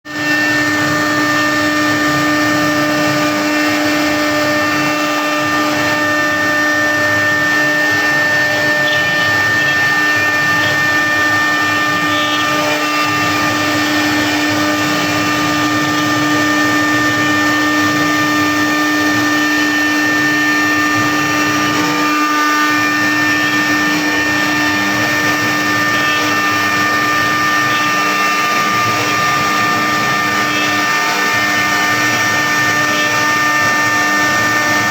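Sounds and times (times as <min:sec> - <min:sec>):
cnc machine whine: 0:00.0 - 0:34.9.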